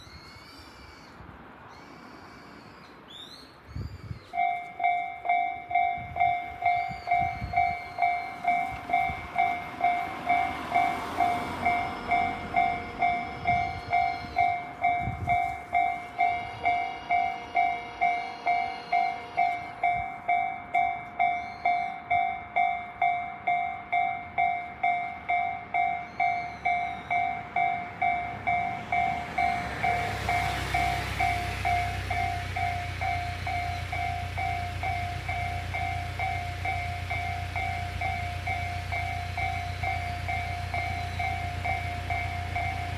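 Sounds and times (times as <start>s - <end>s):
level crossing bell dinging: 4.4s - 42.9s.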